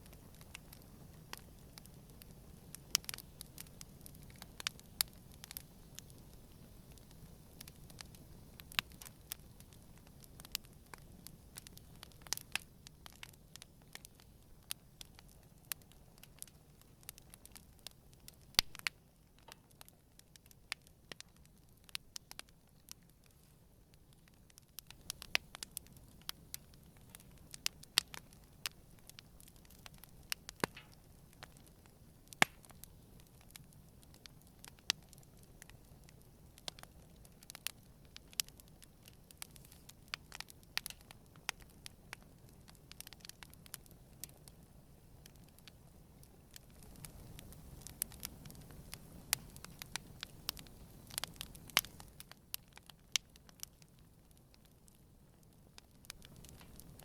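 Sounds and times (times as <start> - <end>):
campfire crackling and popping: 0.0 - 57.0
faint low hiss: 0.0 - 57.0.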